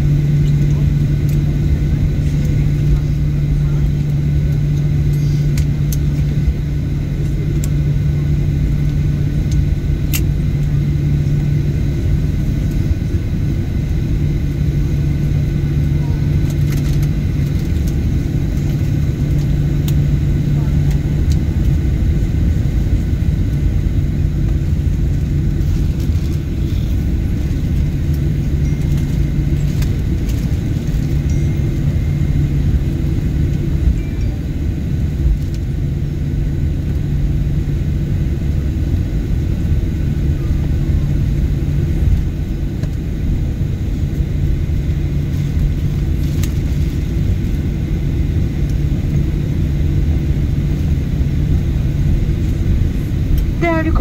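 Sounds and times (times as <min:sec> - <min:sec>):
jet engines rumbling: 0:00.0 - 0:54.0
low hum: 0:00.0 - 0:54.0.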